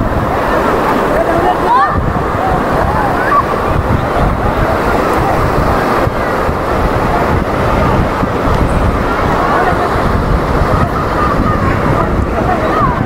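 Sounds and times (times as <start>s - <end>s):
faint voices: 0.0s - 13.0s
loud rushing noise with low rumble: 0.0s - 13.0s.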